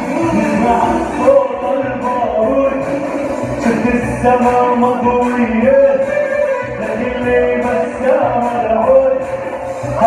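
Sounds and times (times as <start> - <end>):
amplified keyboard backing: 0.0 - 10.0
man singing into a microphone: 0.0 - 10.0.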